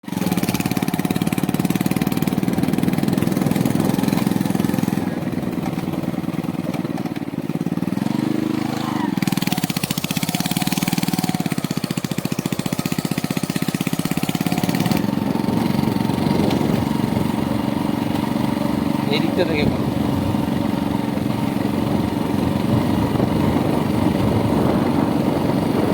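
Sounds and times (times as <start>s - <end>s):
small engine running: 0.0s - 25.9s.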